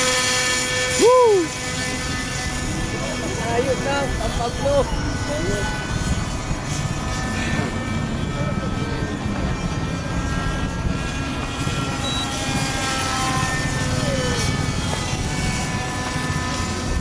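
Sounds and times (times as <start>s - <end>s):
model helicopter engine whine: 0.0s - 17.0s.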